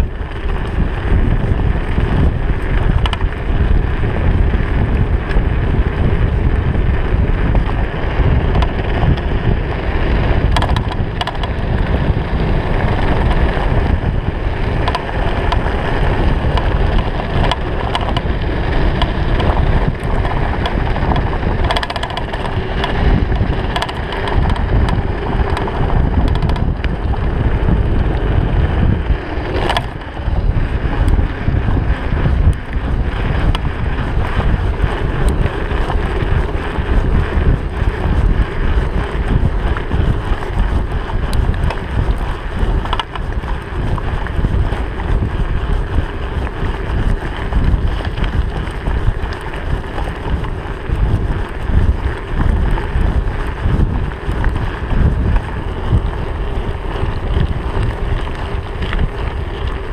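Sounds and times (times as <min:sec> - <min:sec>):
bike rattling clicks: 0:00.0 - 0:59.9
tyres rumbling on dirt road: 0:00.0 - 0:59.9
wind buffeting microphone: 0:00.0 - 0:59.9.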